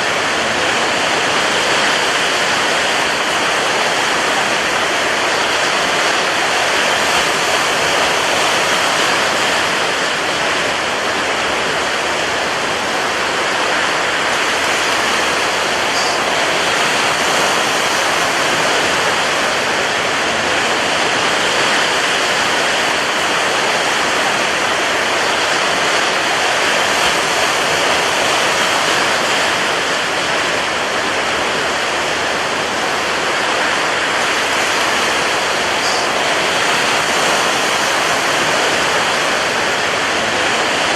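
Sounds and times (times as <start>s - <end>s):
strong wind: 0.0s - 40.9s
surf rushing: 0.0s - 40.9s.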